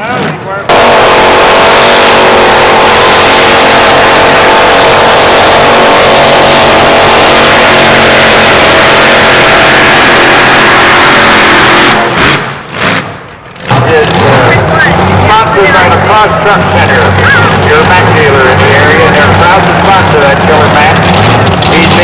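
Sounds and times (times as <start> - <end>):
truck engine at full throttle: 0.0 - 22.0.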